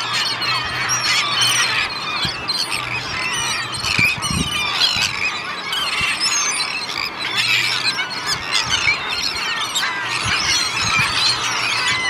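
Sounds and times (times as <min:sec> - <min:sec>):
gulls and terns calling: 0:00.0 - 0:12.0.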